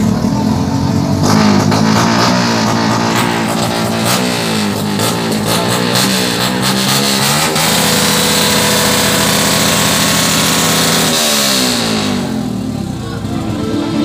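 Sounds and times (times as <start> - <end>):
motorbike engine revving: 0.0 - 14.0.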